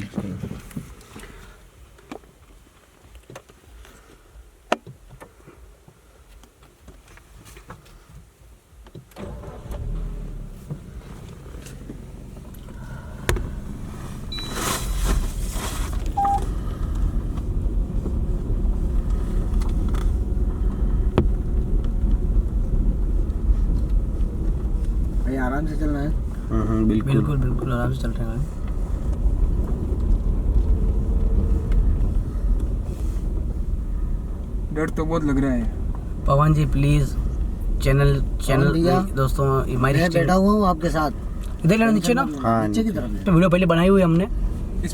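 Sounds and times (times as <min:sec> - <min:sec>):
car engine starting and driving: 0:00.0 - 0:44.9
road rumble: 0:00.0 - 0:44.9.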